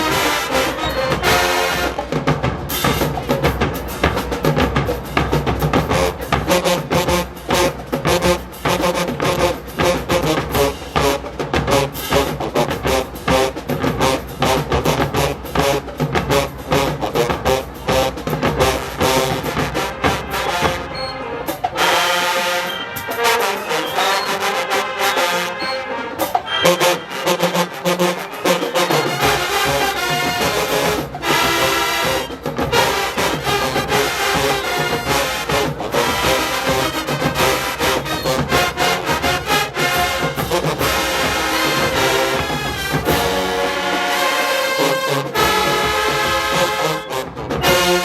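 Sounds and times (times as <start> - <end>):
heavy drum beats: 0.0 - 25.4, 26.2 - 48.0
marching band brass: 0.0 - 48.0.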